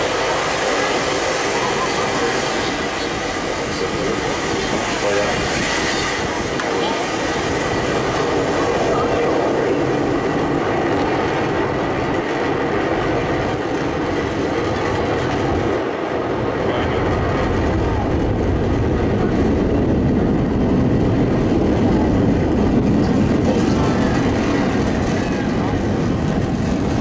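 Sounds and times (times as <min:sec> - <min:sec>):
distant rocket engine rumble: 0:00.0 - 0:27.0.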